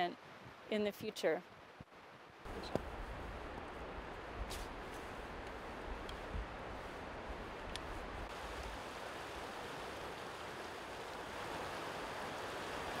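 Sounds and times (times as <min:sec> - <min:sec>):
creek water rushing: 0:01.5 - 0:13.0.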